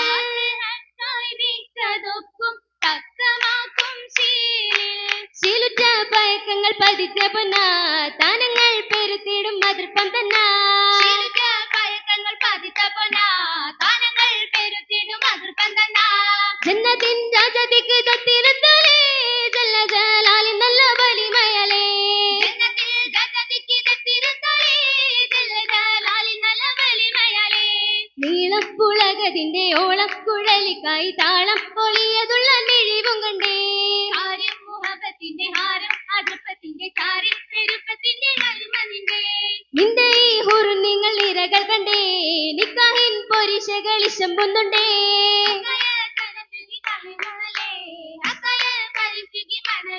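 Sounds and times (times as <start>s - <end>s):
rhythmic hand-clapping: 0.0s - 0.6s, 2.8s - 49.9s
girls singing over a microphone: 0.0s - 49.9s.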